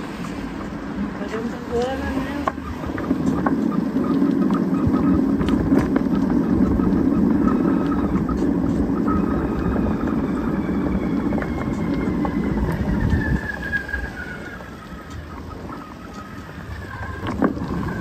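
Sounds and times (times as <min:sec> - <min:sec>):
bicycle tyre rumble: 0:00.0 - 0:18.0
faint whine: 0:00.0 - 0:18.0
wind on microphone: 0:00.0 - 0:18.0.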